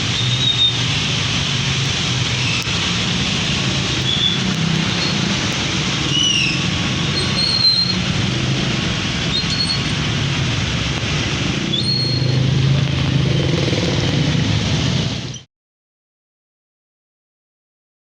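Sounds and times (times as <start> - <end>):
vehicle engine hum: 0.0 - 15.4
road traffic hiss: 0.0 - 15.5.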